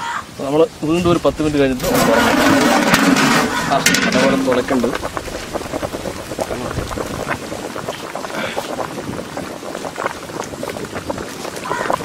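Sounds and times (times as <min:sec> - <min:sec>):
curry bubbling in a pot: 0:01.8 - 0:12.0.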